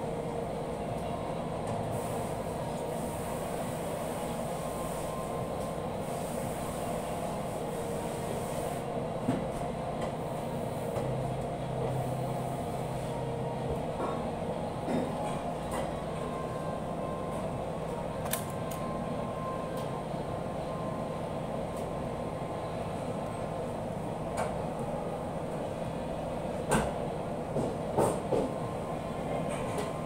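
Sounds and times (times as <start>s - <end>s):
kitchen machinery hum: 0.0s - 30.0s.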